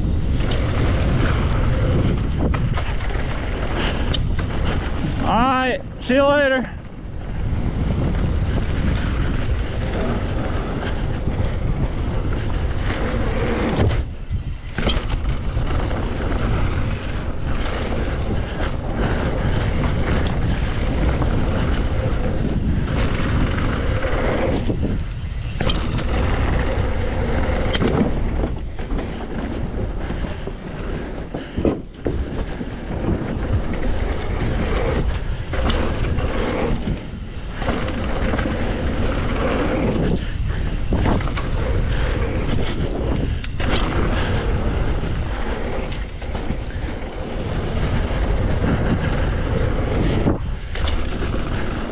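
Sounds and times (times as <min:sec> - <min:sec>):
bike and chain rattling: 0:00.0 - 0:51.9
tyres rolling on dirt: 0:00.0 - 0:51.9
wind rumbling on microphone: 0:00.0 - 0:51.9.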